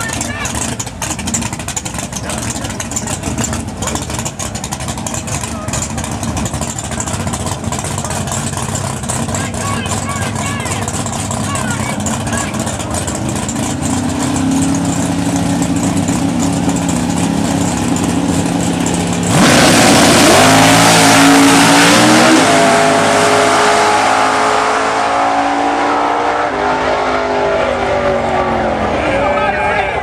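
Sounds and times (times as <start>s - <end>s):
race car accelerating: 0.0s - 30.0s
race cars idling: 0.0s - 30.0s.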